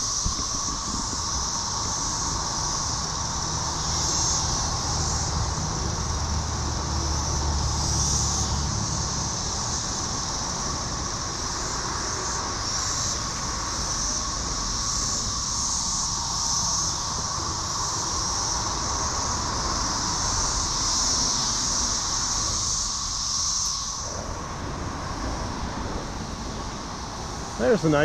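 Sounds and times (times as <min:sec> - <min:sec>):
cicadas droning: 0:00.0 - 0:28.0.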